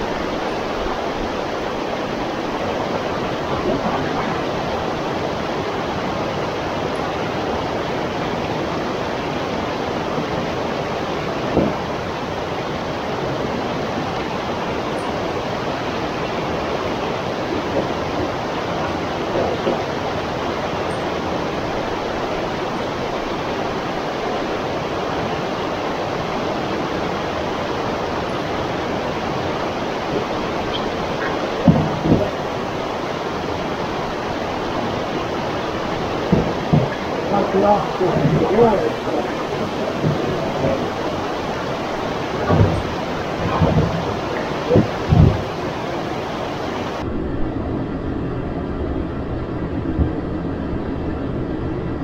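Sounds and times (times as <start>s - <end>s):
river water rushing: 0.0s - 47.2s.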